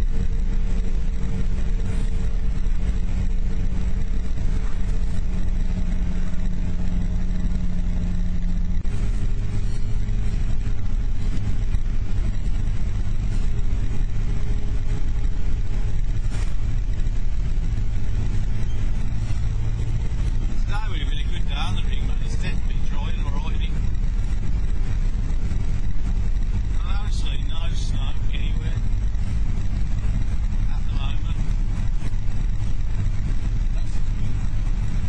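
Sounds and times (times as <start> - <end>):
road noise: 0.0 - 35.0
vehicle engine: 0.0 - 35.0.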